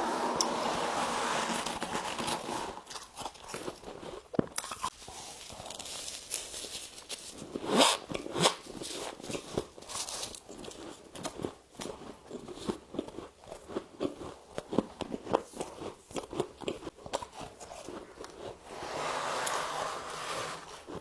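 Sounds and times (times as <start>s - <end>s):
ice being chewed: 1.7s - 18.7s.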